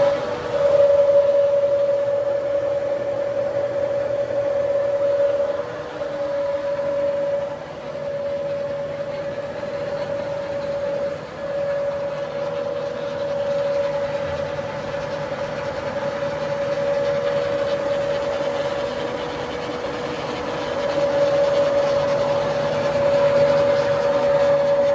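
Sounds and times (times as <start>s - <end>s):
lathe gear whine: 0.0s - 24.9s.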